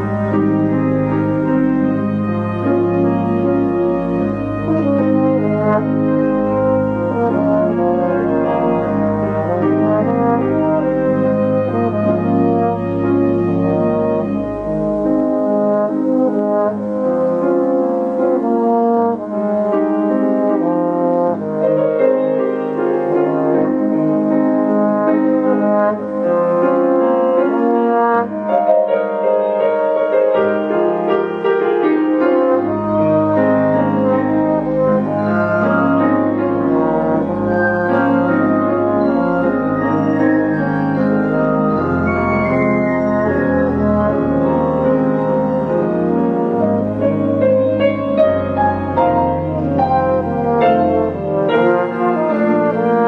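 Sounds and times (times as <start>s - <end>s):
french horn melody: 0.0s - 53.0s
keyboard accompaniment: 0.0s - 53.0s.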